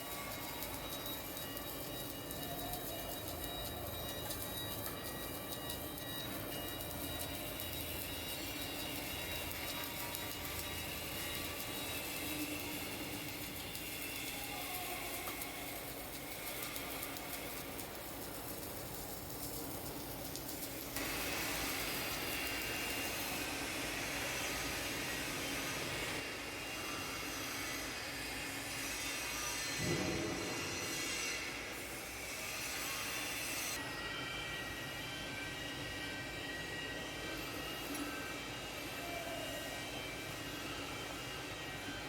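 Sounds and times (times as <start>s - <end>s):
welding machine running with hiss: 0.0s - 42.0s.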